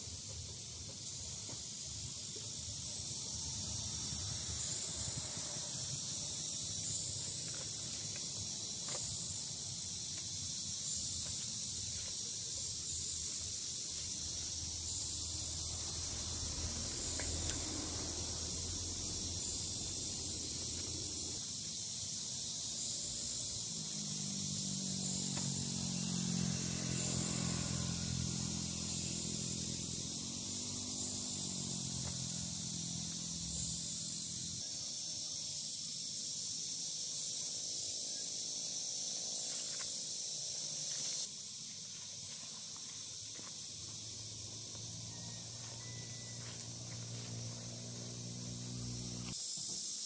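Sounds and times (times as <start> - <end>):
steady hiss: 0.0 - 44.4, 46.6 - 50.0.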